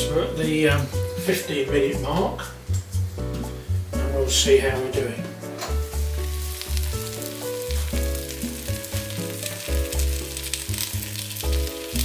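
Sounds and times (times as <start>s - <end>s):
bossa nova music: 0.0s - 12.0s
sausages and onions sizzling: 0.0s - 12.0s.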